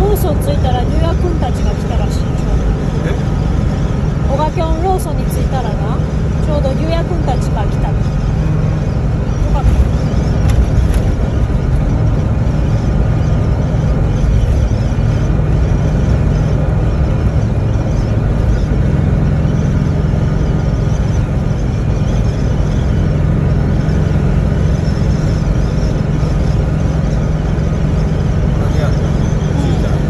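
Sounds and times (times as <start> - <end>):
car interior road and engine rumble: 0.0 - 30.0.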